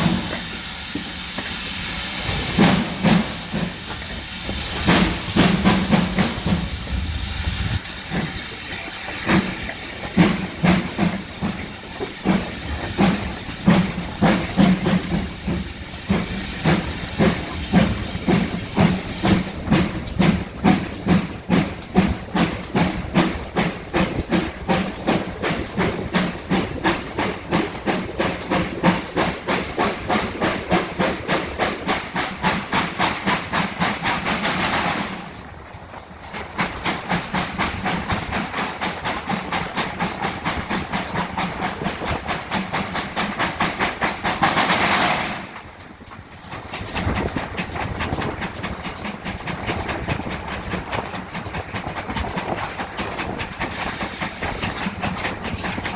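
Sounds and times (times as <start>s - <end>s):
steam hissing: 0.0s - 55.9s
steam locomotive exhaust beats: 0.0s - 55.9s.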